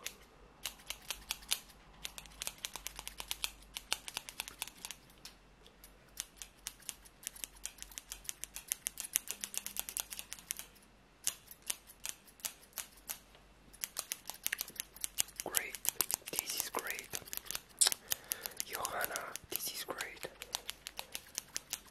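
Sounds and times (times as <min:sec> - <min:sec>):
scissors snipping: 0:00.0 - 0:21.9.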